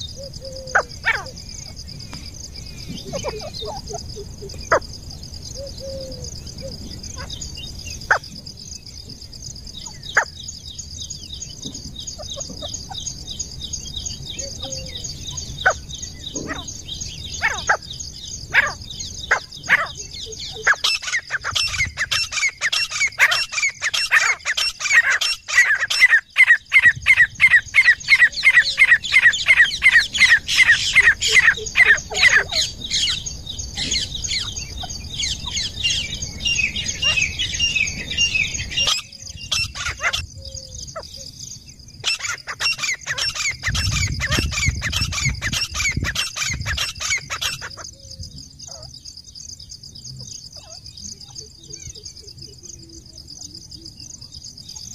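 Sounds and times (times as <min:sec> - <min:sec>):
francolin calling: 0:00.0 - 0:54.9.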